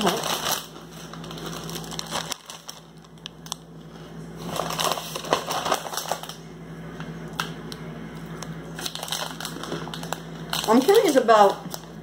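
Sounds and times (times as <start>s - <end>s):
packaging rustling: 0.0s - 6.4s, 8.8s - 12.0s.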